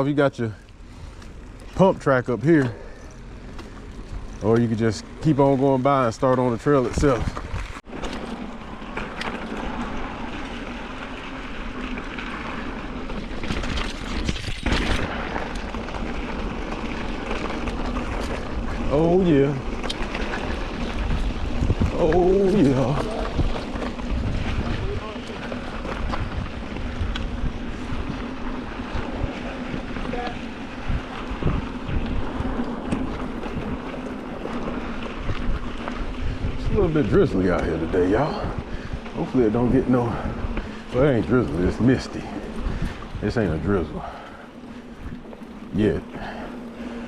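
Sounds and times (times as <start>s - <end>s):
wind and tyre rolling noise: 0.0s - 47.0s
bike knocks and rattles: 1.2s - 47.0s.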